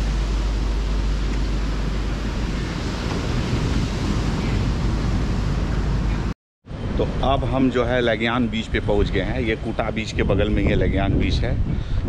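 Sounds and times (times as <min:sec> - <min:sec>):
ocean surf: 0:00.0 - 0:10.2
wind rumbling on microphone: 0:00.0 - 0:12.0.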